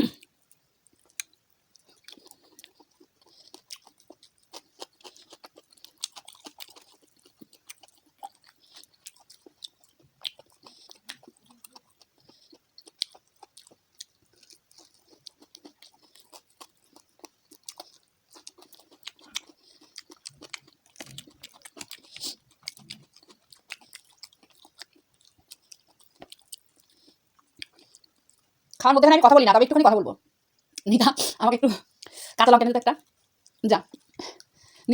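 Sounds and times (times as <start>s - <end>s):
chewing fried fish: 0.0s - 28.8s, 33.0s - 34.9s.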